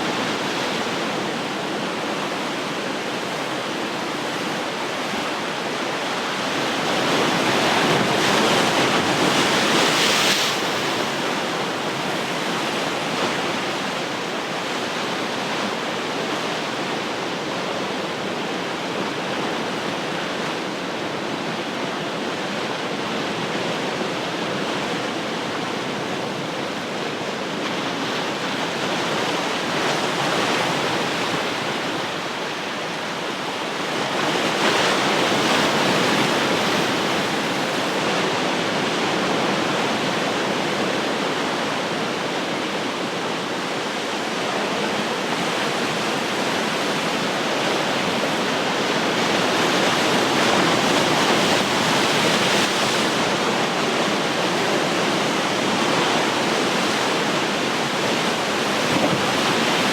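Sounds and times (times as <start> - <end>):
ocean waves on shore: 0.0 - 59.9.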